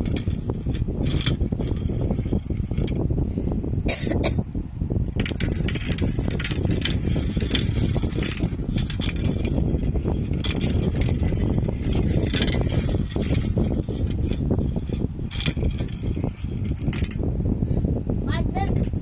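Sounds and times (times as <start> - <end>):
marbles rolling on track: 0.0 - 3.5, 5.0 - 17.3, 18.6 - 19.0
marbles clicking: 0.0 - 3.6, 5.1 - 17.3, 18.7 - 19.0.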